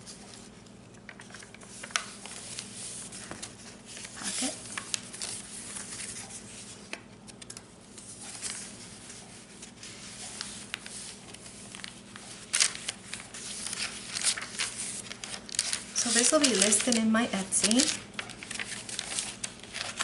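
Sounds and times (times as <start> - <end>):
paper and card rustling: 0.0 - 20.0.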